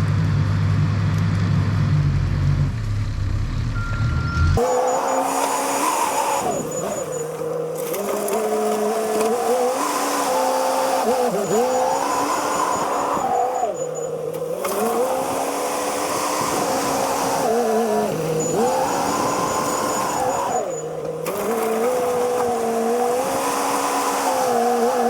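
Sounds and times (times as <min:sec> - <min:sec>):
backhoe engine revving: 0:01.4 - 0:25.0.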